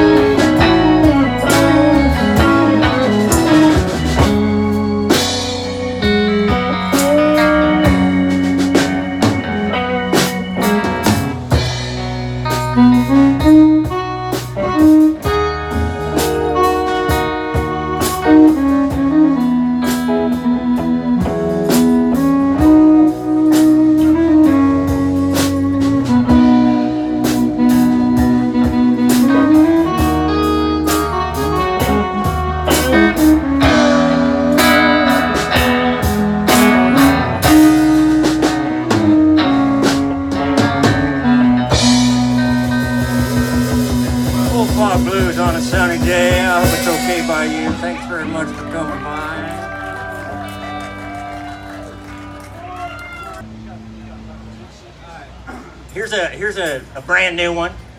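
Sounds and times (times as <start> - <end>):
bluesy electric guitar melody: 0.0 - 55.9
live band playing: 0.0 - 57.9.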